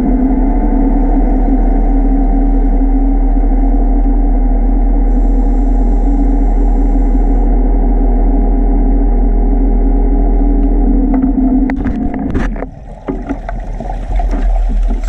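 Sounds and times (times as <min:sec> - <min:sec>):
underwater scooter hum: 0:00.0 - 0:15.0.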